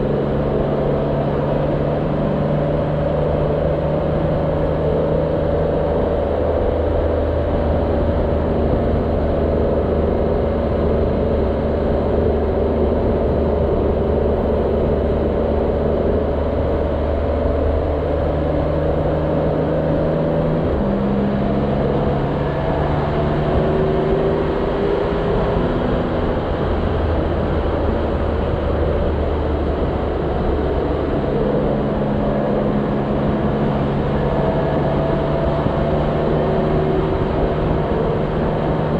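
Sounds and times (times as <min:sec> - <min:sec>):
road noise: 0:00.0 - 0:38.9
wind noise: 0:00.0 - 0:38.9.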